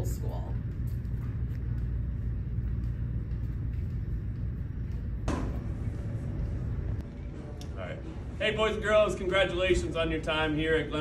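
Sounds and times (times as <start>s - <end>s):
low rumble of background noise: 0.0s - 11.0s.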